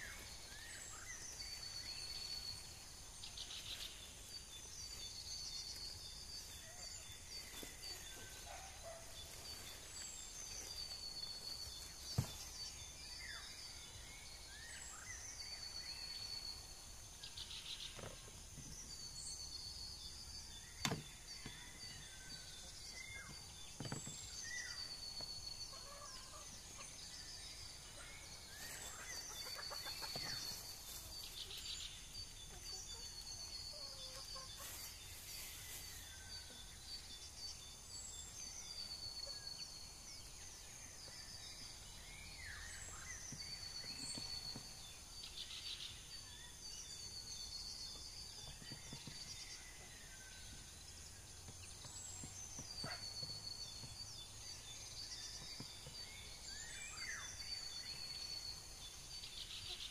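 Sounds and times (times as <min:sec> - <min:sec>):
small birds singing: 0:00.0 - 0:59.9.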